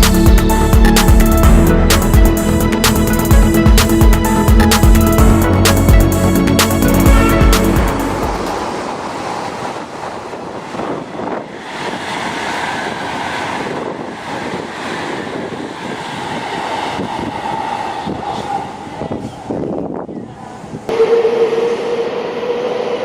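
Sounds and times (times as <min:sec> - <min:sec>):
high-speed train rushing: 0:00.0 - 0:23.0.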